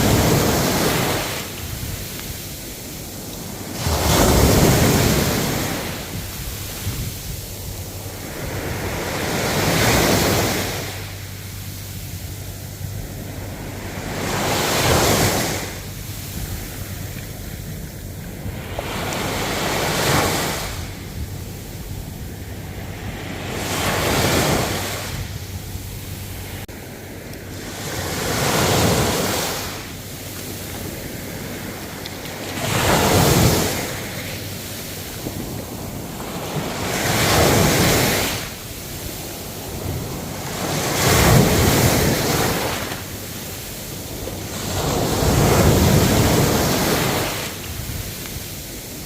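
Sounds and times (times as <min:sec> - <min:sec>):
ocean waves breaking: 0:00.0 - 0:49.0.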